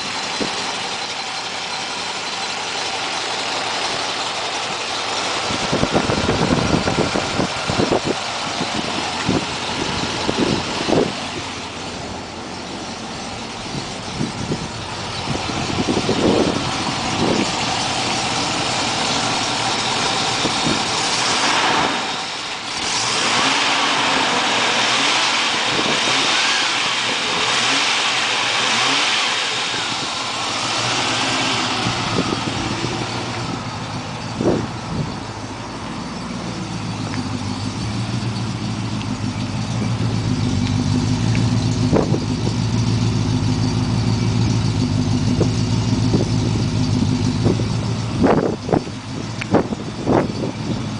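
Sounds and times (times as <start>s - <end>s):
car engine revving and idling: 0.0s - 50.9s.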